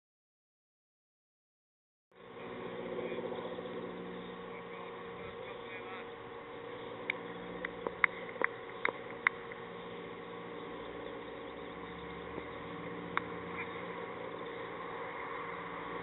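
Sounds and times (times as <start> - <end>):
steady low hum: 2.2 - 16.0.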